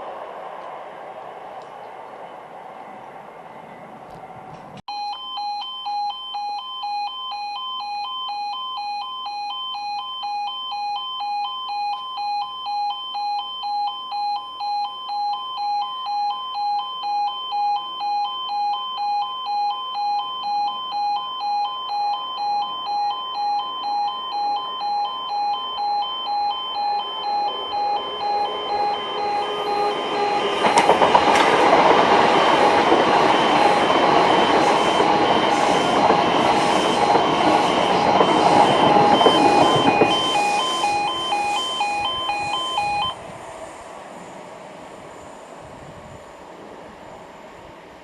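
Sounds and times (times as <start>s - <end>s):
level crossing two-tone alarm: 4.9s - 43.3s.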